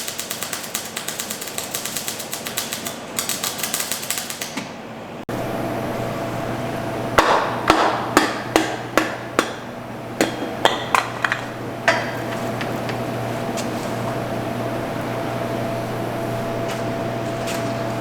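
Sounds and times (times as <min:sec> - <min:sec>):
low workshop hum: 0:00.0 - 0:18.0.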